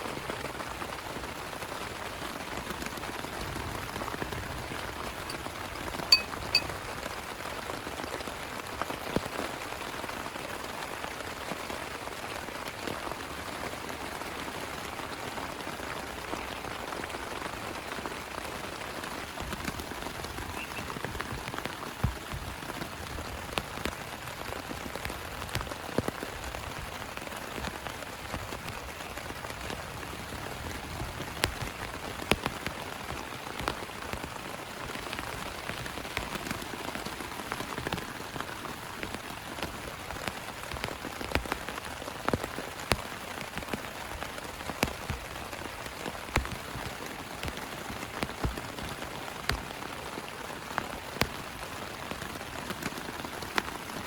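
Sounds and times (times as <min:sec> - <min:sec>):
heavy rain pouring: 0:00.0 - 0:06.0, 0:06.7 - 0:54.0.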